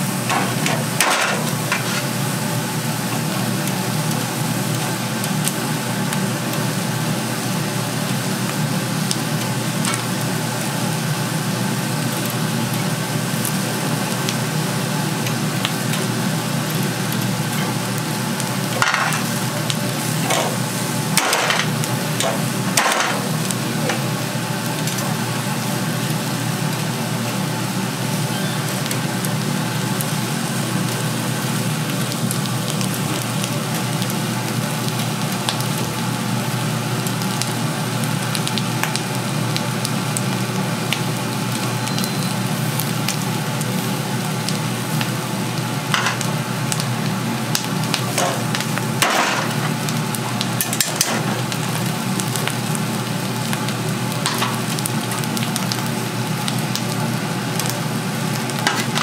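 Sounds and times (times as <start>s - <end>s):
chicken feet sizzling: 0.0s - 59.0s.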